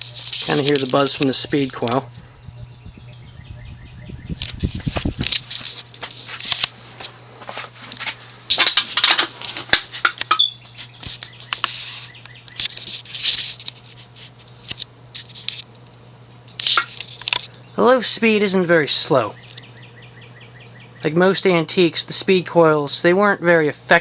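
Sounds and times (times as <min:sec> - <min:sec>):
ceiling fan buzzing: 0:00.0 - 0:24.0.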